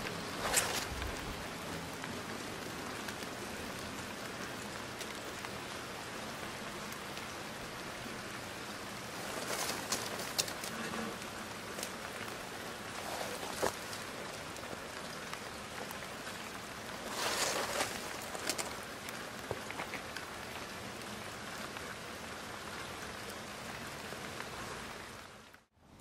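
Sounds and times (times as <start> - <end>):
light ticks and rustling: 0.0 - 25.6
steady background hiss: 0.0 - 26.0.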